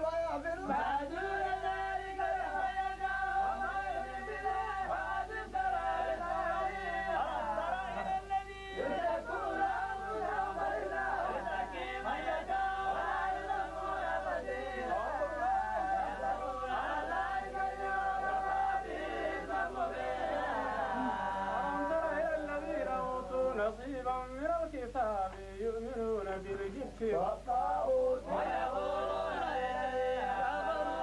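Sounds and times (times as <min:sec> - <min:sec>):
men chanting recitation: 0:00.0 - 0:31.0.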